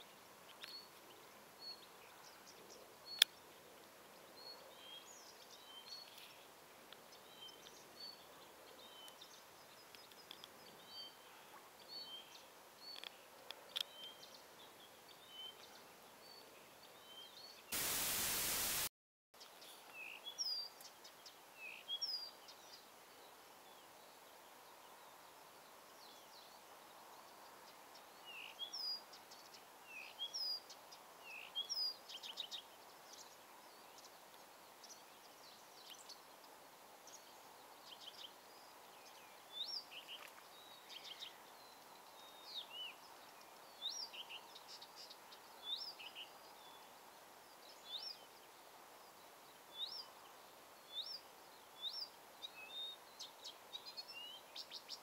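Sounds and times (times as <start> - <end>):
faint outdoor hiss: 0.0 - 55.0
small birds chirping: 0.0 - 55.0.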